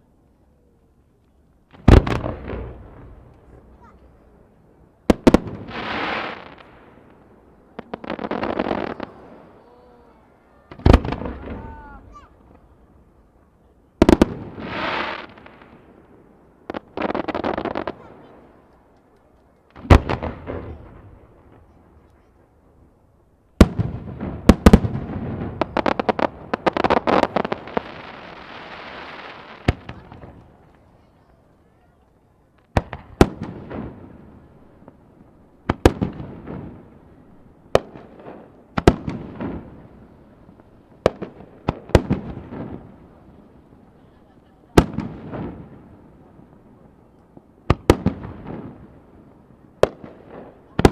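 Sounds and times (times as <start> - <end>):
fireworks crackling and popping: 1.2 - 50.9.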